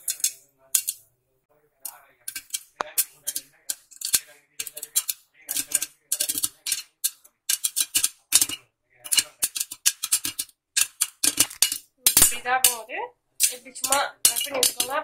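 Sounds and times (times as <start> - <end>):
popcorn popping in a pot: 0.0 - 1.0, 1.8 - 15.0.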